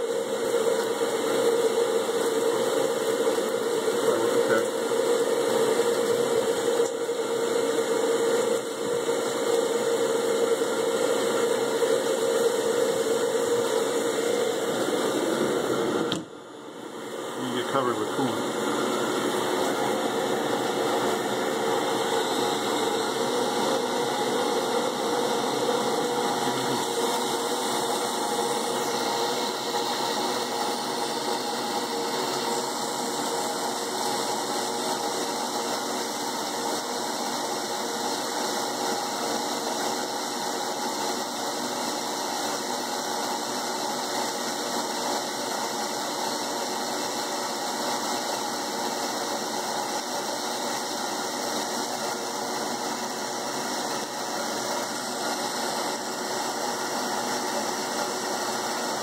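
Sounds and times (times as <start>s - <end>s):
machine spindle hum: 0.0s - 59.0s.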